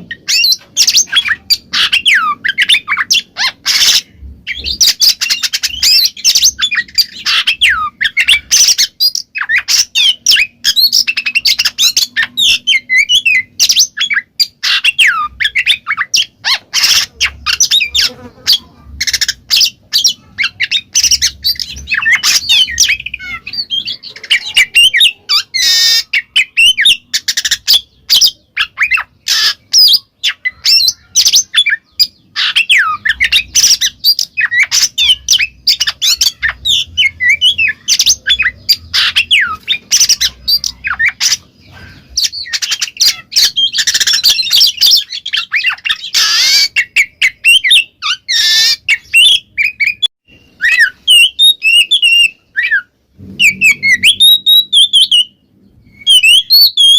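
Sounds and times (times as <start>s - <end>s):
magpie-robin singing: 0.0s - 56.9s.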